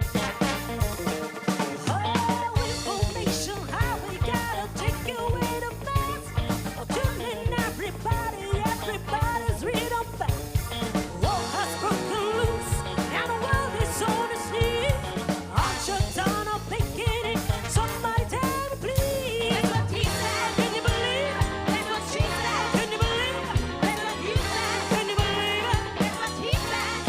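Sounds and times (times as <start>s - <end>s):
bass: 0.0s - 27.0s
drum kit groove: 0.0s - 27.0s
funk band playing: 0.0s - 27.0s.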